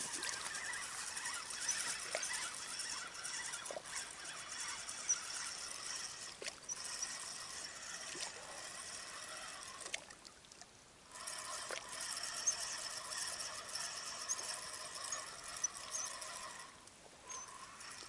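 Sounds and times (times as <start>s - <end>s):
river water trickling: 0.0s - 18.0s.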